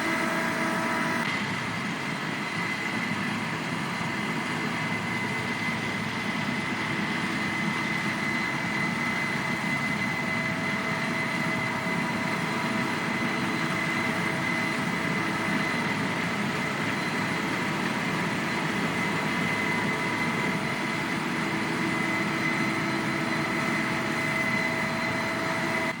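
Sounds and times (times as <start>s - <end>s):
combine harvester running: 0.0s - 26.0s
high machine whine: 0.0s - 26.0s.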